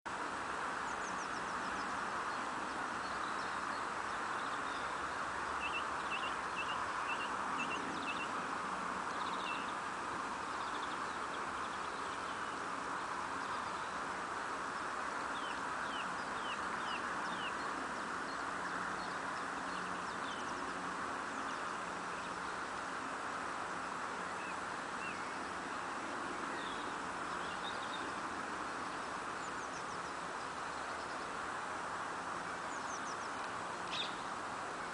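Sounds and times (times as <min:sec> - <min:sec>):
steady background hiss: 0:00.1 - 0:34.9
small birds chirping: 0:00.6 - 0:34.9.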